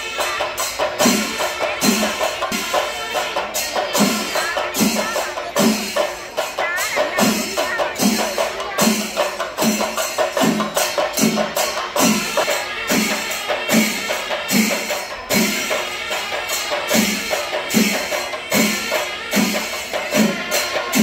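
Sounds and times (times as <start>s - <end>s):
drums keeping steady beat: 0.0s - 21.0s
hand cymbals clashing: 0.0s - 21.0s.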